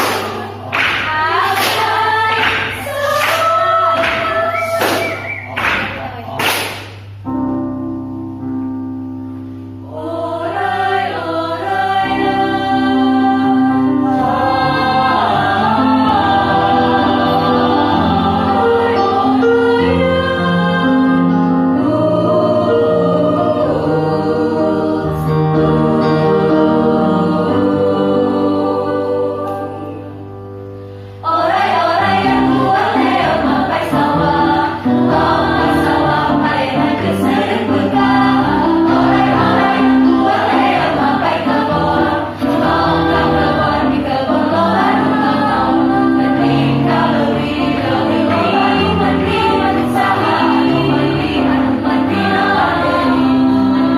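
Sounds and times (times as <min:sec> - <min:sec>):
choir singing in parts: 0:00.0 - 0:06.0, 0:09.8 - 0:53.9.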